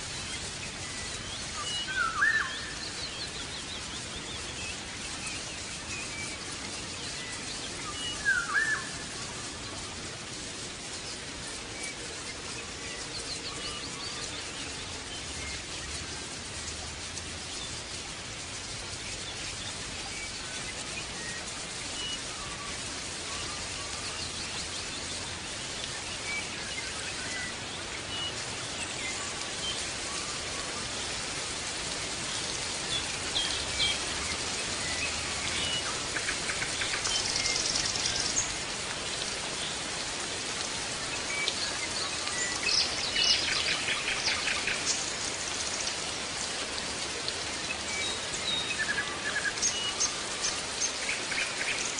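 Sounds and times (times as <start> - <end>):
steady hiss: 0.0 - 51.9.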